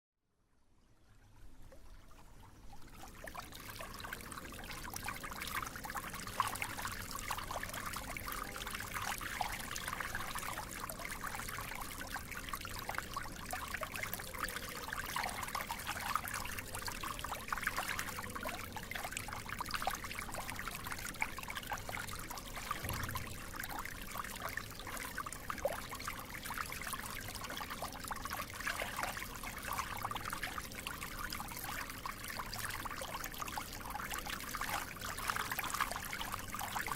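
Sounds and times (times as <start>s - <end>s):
water flowing and trickling: 0.6s - 36.9s.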